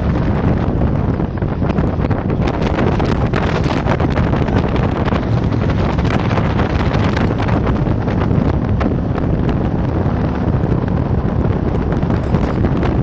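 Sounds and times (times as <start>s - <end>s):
boat engine: 0.0s - 13.0s
water noise: 0.0s - 13.0s
wind buffeting microphone: 0.0s - 13.0s.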